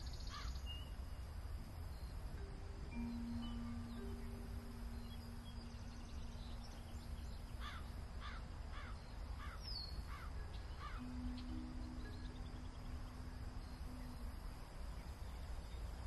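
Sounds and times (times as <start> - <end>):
bird calling: 0.0 - 1.0, 2.4 - 16.0
steady low rumble: 0.0 - 16.0
held low tone: 1.6 - 16.0.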